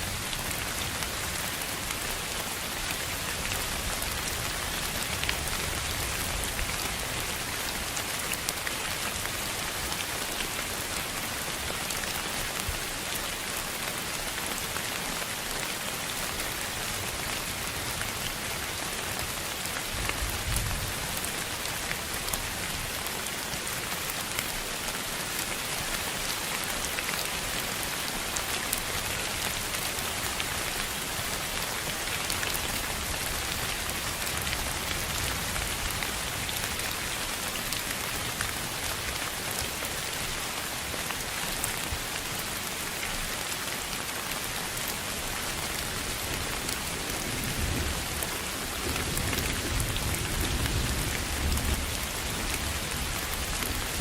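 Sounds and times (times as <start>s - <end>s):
steady rain on a surface: 0.0s - 54.0s.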